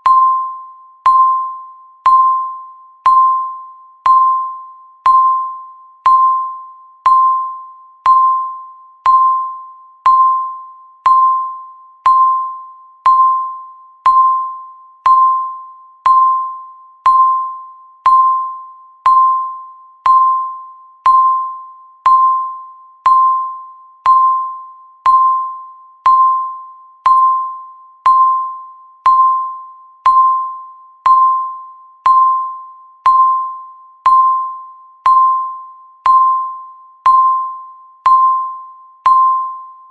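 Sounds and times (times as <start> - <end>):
bell-like timer ding: 0.0 - 39.9.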